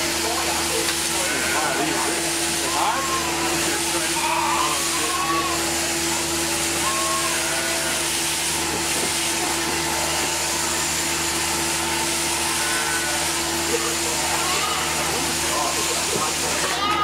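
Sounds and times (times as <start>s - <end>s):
electric shearing machine humming: 0.0s - 17.0s.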